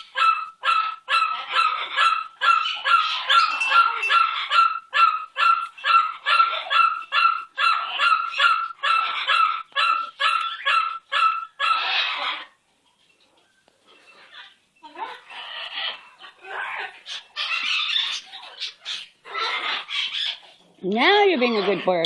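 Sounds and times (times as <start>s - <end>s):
parrot screaming: 0.1s - 12.5s, 14.3s - 20.4s.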